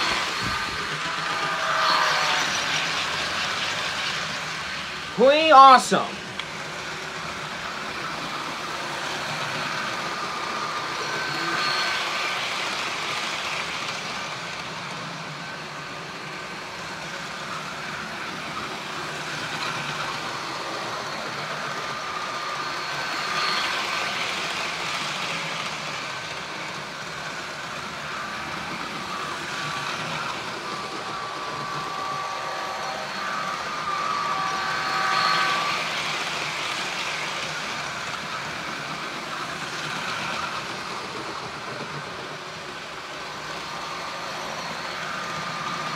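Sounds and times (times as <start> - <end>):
model train wheels on rails: 0.0 - 45.9.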